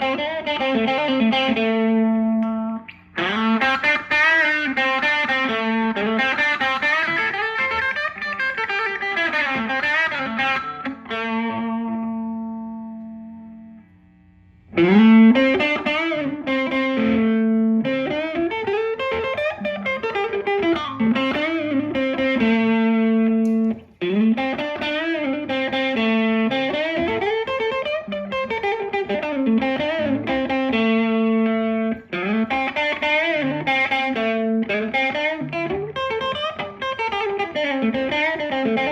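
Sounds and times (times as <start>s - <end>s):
overdriven electric guitar riff: 0.0s - 38.9s.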